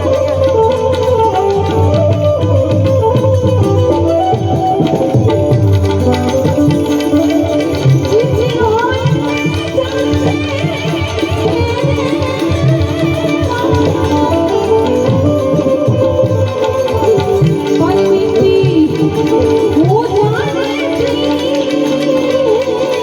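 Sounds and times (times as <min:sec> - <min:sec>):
melodic instrument playing ornamented lines: 0:00.0 - 0:23.0
tabla drumming: 0:00.0 - 0:23.0.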